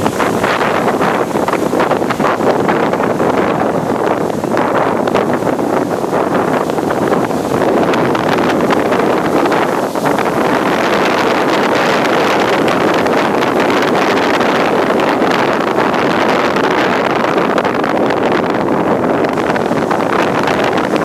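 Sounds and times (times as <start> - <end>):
ocean surf roaring: 0.0 - 21.0
wind buffeting microphone: 0.0 - 21.0.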